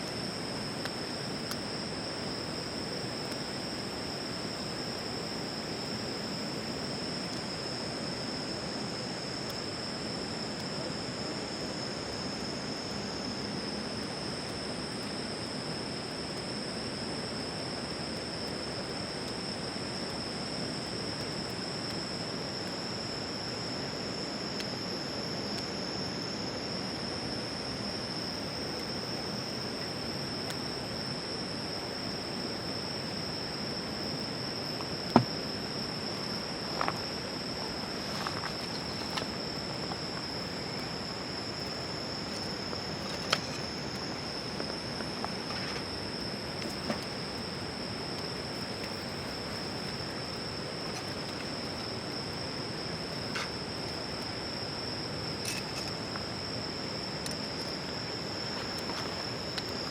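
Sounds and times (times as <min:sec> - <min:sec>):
crickets trilling: 0:00.0 - 0:59.9
higher insect songs: 0:00.0 - 0:59.9
steady background hiss: 0:00.0 - 0:59.9.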